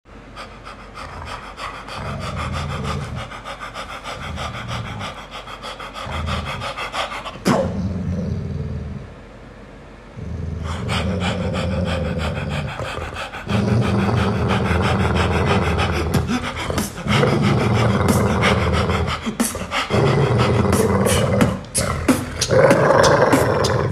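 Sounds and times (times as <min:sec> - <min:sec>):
person imitating dog panting: 0:00.3 - 0:07.8, 0:10.7 - 0:23.9.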